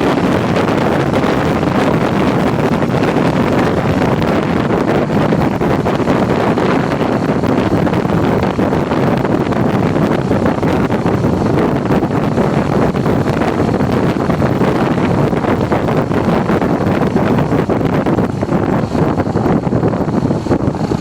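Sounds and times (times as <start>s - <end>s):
wind rush on microphone: 0.0s - 21.0s.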